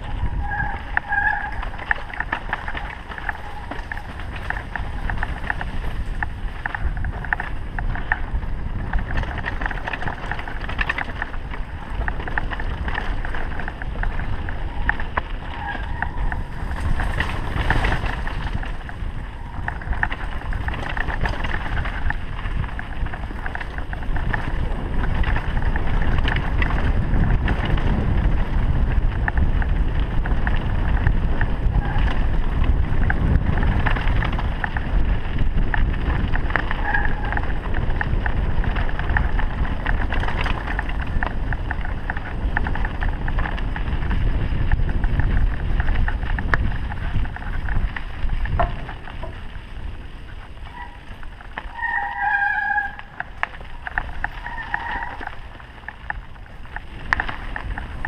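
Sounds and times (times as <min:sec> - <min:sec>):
bike tyres crunching on gravel: 0:00.0 - 0:58.0
wind buffeting microphone: 0:00.0 - 0:58.0.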